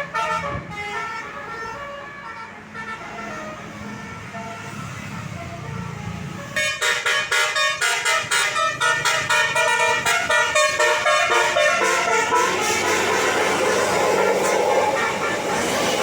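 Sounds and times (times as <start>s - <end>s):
bus air horn melody: 0.0s - 5.3s, 6.5s - 16.0s.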